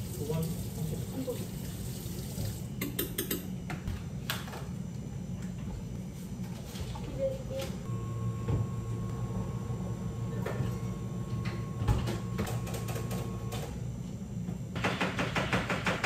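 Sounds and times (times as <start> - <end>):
machine humming with high whine: 0.0 - 16.0.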